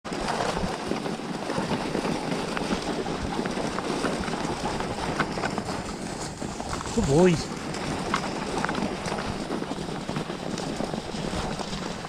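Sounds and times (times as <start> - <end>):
skis sliding over packed snow: 0.1 - 12.0.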